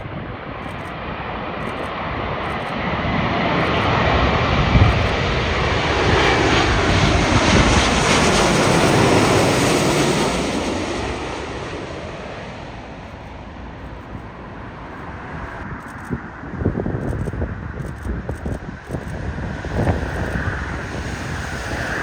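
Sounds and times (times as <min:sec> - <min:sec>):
jet airliner passing: 0:00.0 - 0:22.0.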